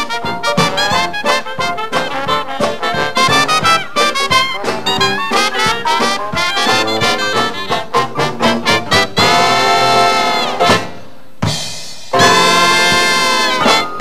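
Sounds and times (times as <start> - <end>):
clarinet: 0.0 - 11.0, 12.2 - 14.0
trumpet: 0.0 - 11.1, 12.1 - 14.0
drums: 0.0 - 14.0
jazz band playing blues: 0.0 - 14.0.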